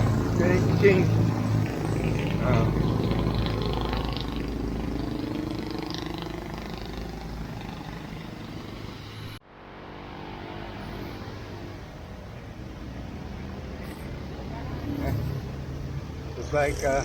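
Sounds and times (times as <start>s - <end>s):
motor traffic rumble: 0.0s - 17.0s
quieter steady traffic noise: 0.0s - 17.0s.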